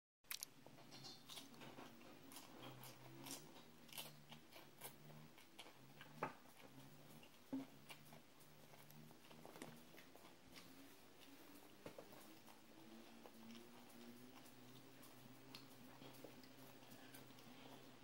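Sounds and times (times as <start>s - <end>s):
child chewing raw vegetables: 0.2s - 18.0s.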